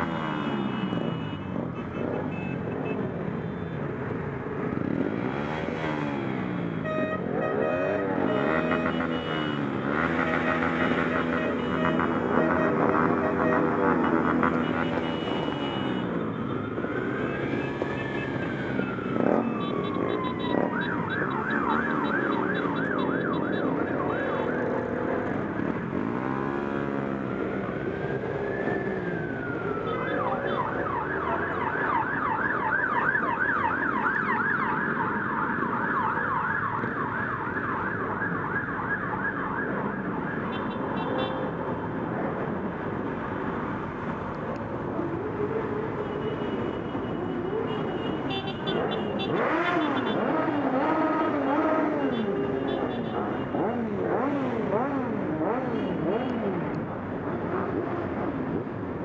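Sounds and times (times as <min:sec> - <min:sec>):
motorcycle engines running: 0:00.0 - 0:38.9, 0:47.4 - 0:59.0
emergency vehicle siren: 0:00.0 - 0:59.0.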